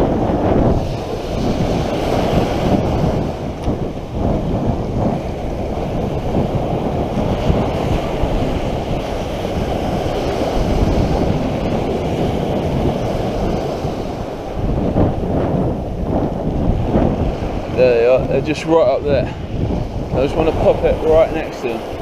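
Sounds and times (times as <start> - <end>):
waves washing on shingle beach: 0.0 - 22.0
wind buffeting microphone: 0.0 - 22.0.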